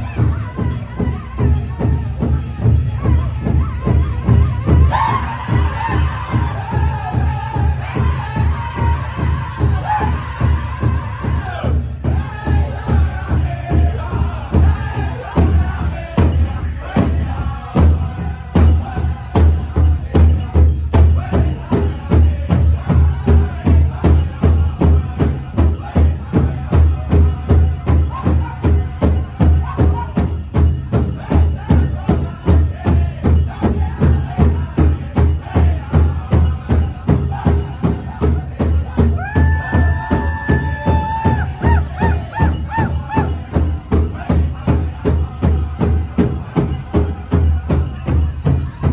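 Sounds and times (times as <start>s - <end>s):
big drum steady beat: 0.0s - 48.9s
group of singers chanting: 0.0s - 48.9s.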